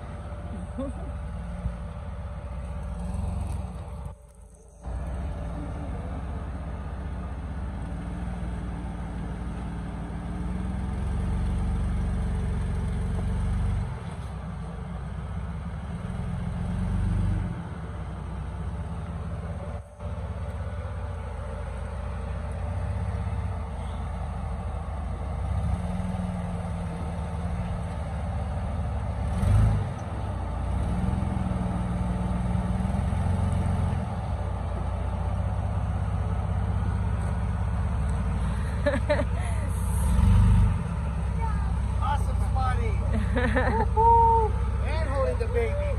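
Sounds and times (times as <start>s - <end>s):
car engine revving at low revs: 0.0s - 45.9s.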